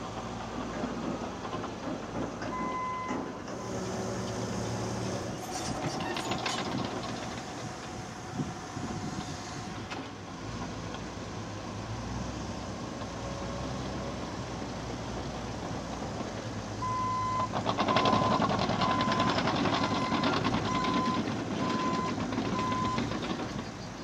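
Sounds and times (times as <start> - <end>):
steel tracks clanking: 0.0 - 11.9, 15.4 - 24.0
diesel engine under load: 0.0 - 24.0.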